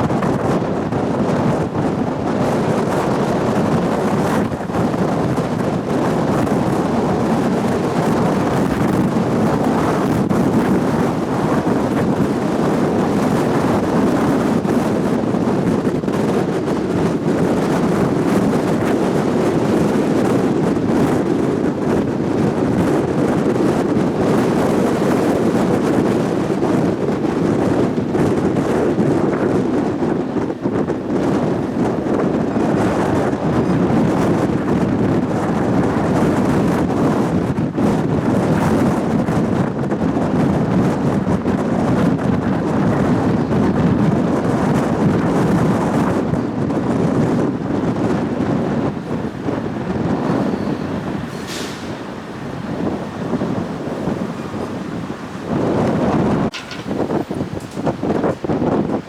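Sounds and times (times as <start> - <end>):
strong wind on microphone: 0.0 - 59.0.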